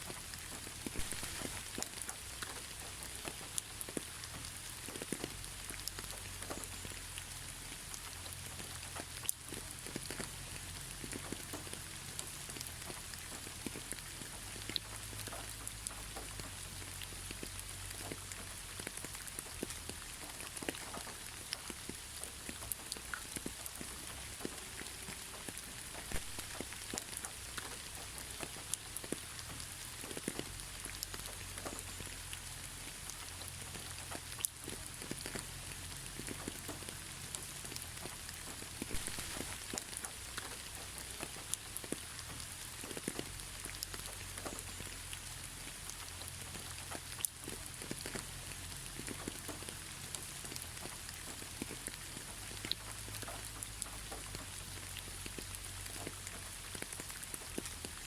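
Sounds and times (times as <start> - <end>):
gentle steady rain: 0.0 - 58.0
raindrops ticking on a surface: 0.0 - 58.0.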